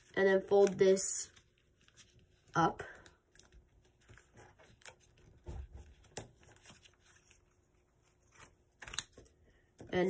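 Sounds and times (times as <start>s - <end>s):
paper rustling and crinkling: 0.0s - 2.6s, 3.3s - 9.4s.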